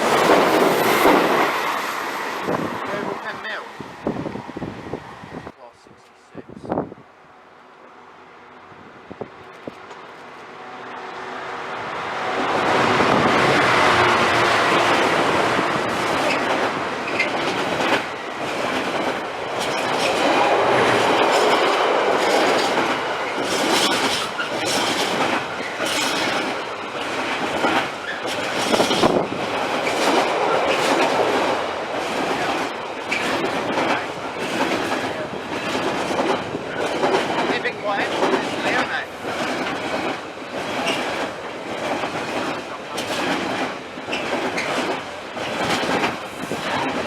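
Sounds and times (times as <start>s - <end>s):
train wheels clattering on track: 0.0s - 4.3s, 9.2s - 11.1s, 11.9s - 47.0s.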